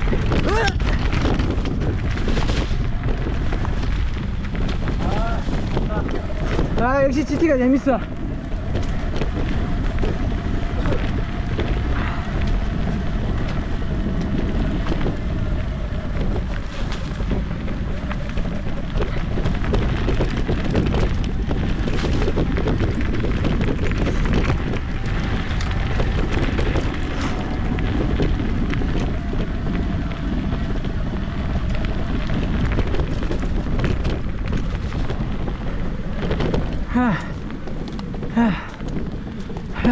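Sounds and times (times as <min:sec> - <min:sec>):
bike frame rattling: 0:00.0 - 0:39.9
wind buffeting microphone: 0:00.0 - 0:39.9.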